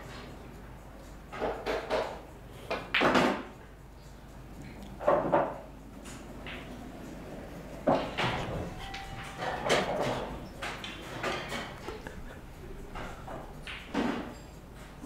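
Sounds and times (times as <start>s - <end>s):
pool balls clattering: 1.4s - 3.5s, 5.0s - 15.0s.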